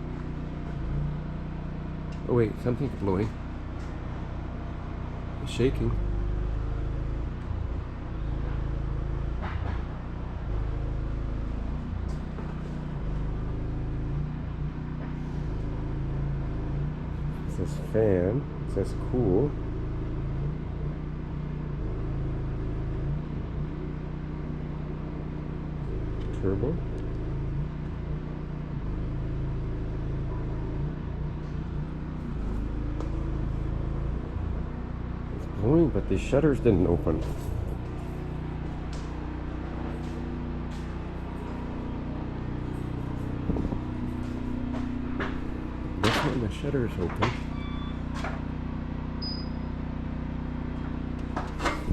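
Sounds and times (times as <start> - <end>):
air conditioner fan humming: 0.0 - 20.9, 23.6 - 51.9
air conditioner unit vibrating: 0.0 - 51.9.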